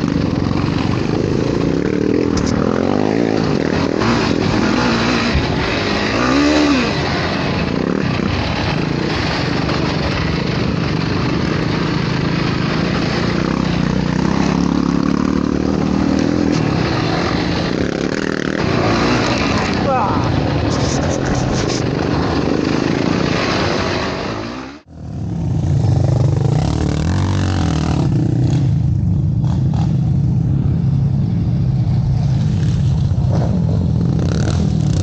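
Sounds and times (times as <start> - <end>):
quad engine revving: 0.0 - 24.9, 25.7 - 30.1
wind and riding noise: 0.0 - 35.0.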